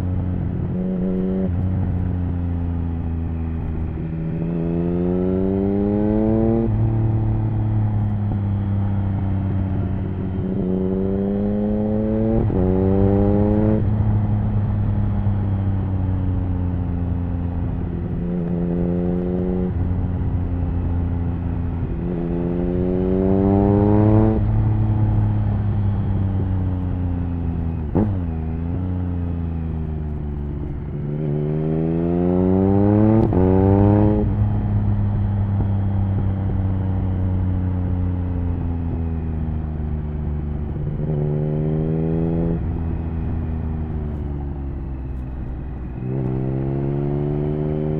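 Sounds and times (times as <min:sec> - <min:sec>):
motorcycle engine revving and shifting: 0:00.0 - 0:47.9.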